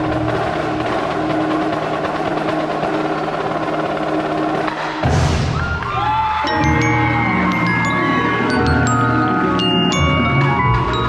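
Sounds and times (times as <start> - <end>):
percussion ensemble music: 0.0 - 11.0.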